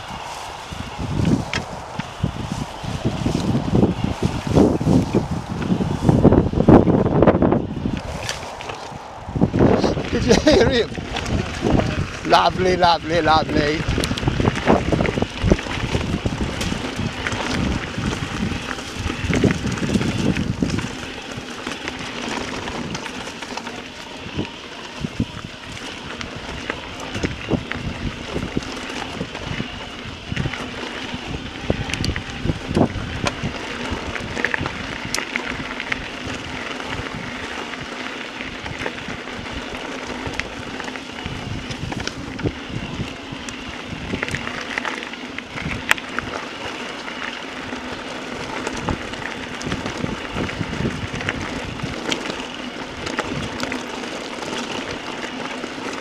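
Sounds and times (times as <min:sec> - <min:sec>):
bike rattling: 0:00.0 - 0:56.0
steady low hum: 0:00.0 - 0:56.0
tyres crunching on gravel: 0:00.0 - 0:56.0
wind buffeting microphone: 0:00.0 - 0:56.0.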